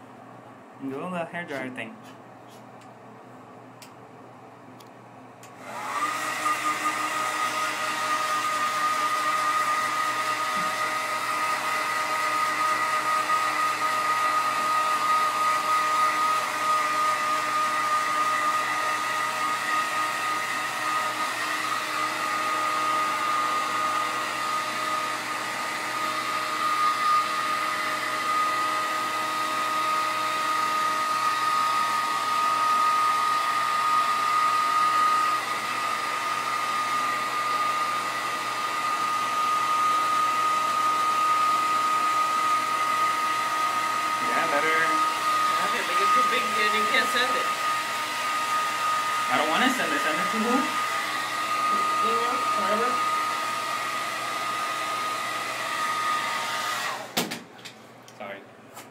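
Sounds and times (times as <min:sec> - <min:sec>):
hair dryer running: 0:00.0 - 0:58.2.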